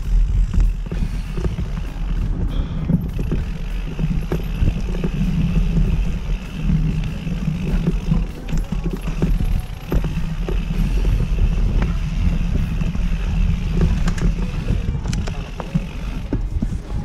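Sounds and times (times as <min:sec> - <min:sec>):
bike clicks and rattles: 0:00.0 - 0:17.0
tyre noise on dirt: 0:00.0 - 0:17.0
wind rumble on microphone: 0:00.0 - 0:17.0.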